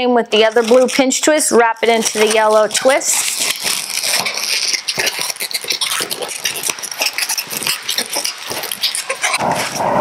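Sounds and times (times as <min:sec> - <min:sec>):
balloons squeaking and rubbing: 0:00.3 - 0:10.0.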